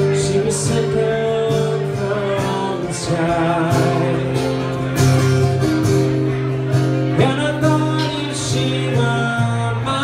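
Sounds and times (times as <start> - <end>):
acoustic guitars strumming: 0.0 - 10.0.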